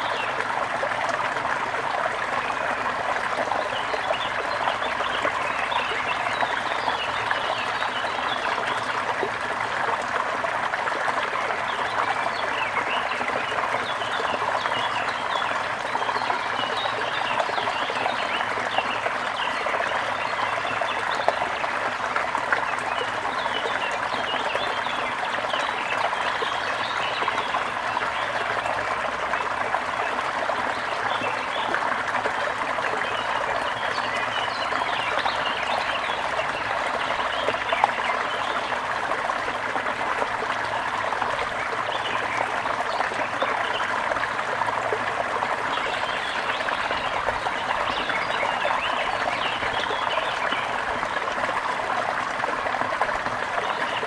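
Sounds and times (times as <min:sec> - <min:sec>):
trickling stream water: 0:00.0 - 0:54.0.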